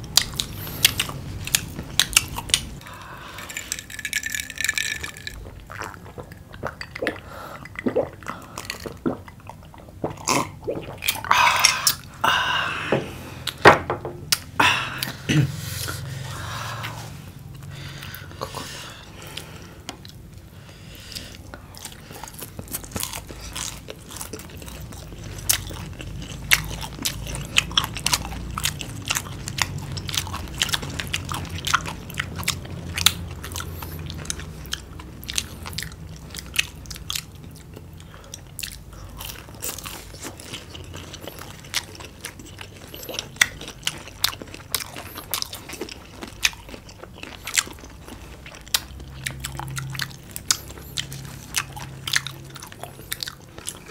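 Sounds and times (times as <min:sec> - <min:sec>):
crunchy chewing of fried food: 0:00.0 - 0:12.2, 0:15.1 - 0:53.9.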